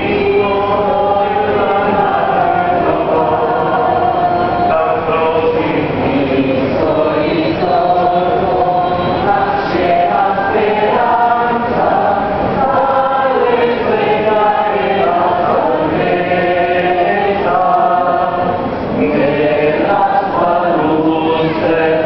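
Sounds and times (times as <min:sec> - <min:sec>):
crowd singing a hymn: 0:00.0 - 0:22.0.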